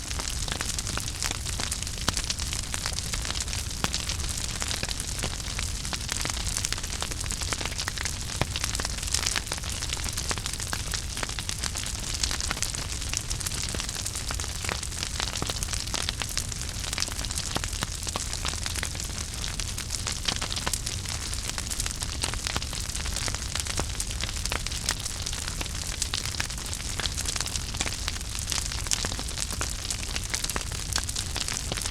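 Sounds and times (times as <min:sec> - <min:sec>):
fire crackles and pops: 0:00.0 - 0:31.9
wood fire hiss and rumble: 0:00.0 - 0:31.9.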